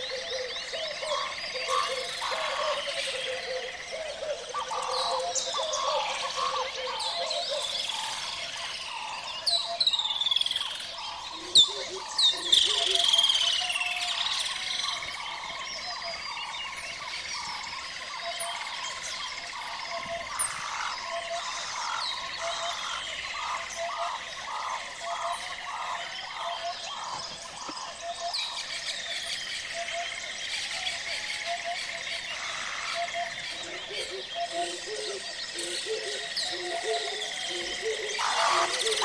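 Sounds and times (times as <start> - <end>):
birds whistling and chirping: 0.0 - 39.0.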